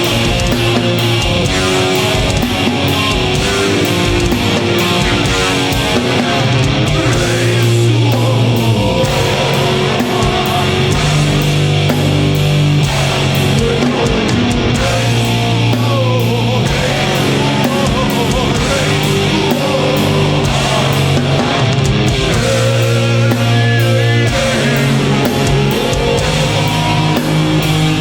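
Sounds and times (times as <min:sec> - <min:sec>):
heavy metal band playing live: 0:00.0 - 0:28.0.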